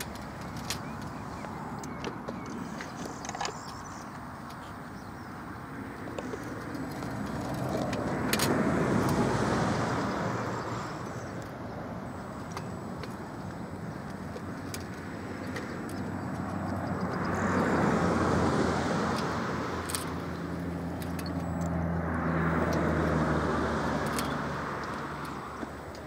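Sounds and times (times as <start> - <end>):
road vehicle passing: 0.0 - 26.0.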